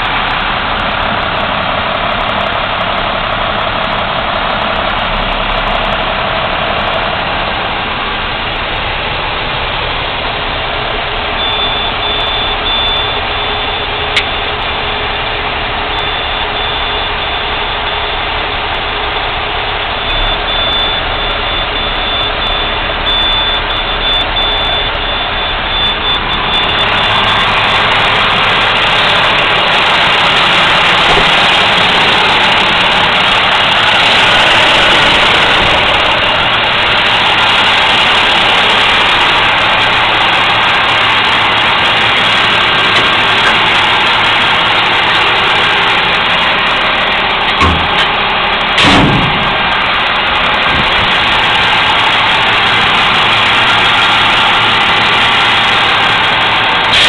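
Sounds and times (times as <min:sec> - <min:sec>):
garbage truck engine running: 0:00.0 - 0:57.0.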